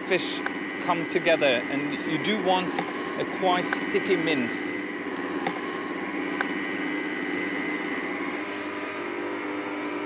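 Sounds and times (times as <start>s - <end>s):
meat mincer motor whining: 0.0s - 10.0s.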